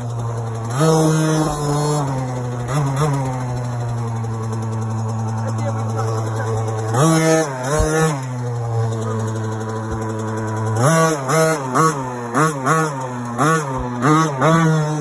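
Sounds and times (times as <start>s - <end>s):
dirt bike engine idling and revving: 0.0s - 15.0s.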